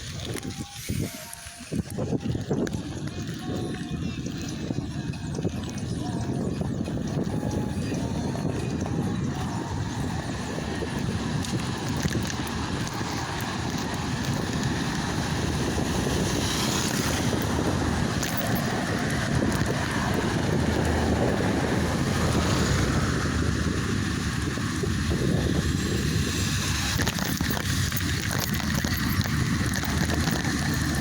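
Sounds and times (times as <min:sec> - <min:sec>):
low rumble of travel: 0:00.0 - 0:31.0
wind buffeting microphone: 0:00.0 - 0:31.0.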